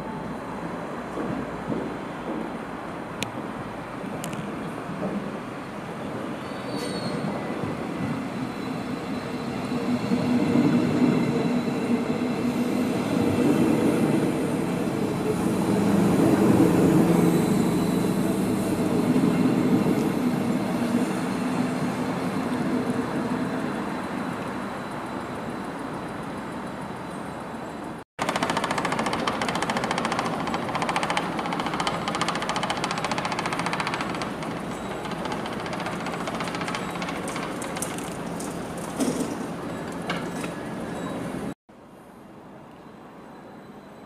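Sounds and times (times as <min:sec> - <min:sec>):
train rolling past: 0:00.0 - 0:41.6.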